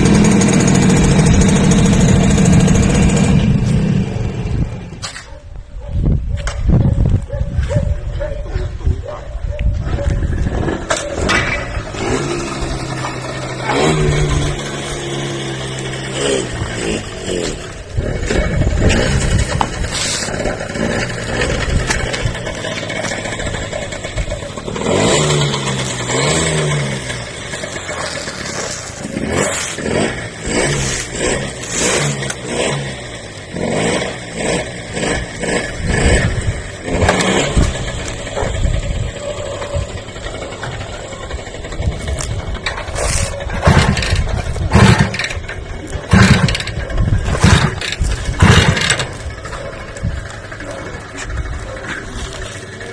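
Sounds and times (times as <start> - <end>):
engine revving: 0.0 - 5.0, 10.3 - 52.9
engine throttle blips: 10.3 - 52.9.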